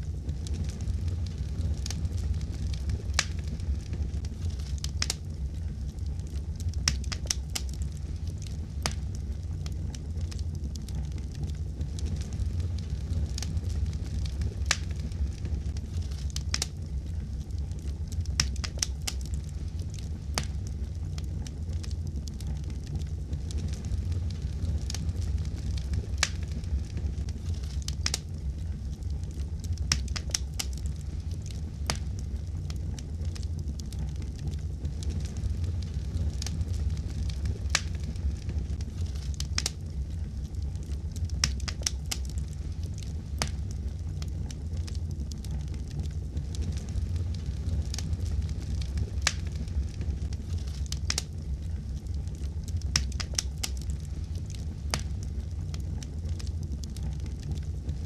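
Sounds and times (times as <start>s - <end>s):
fire crackling and popping: 0.0s - 58.0s
low rumble of burning: 0.0s - 58.0s.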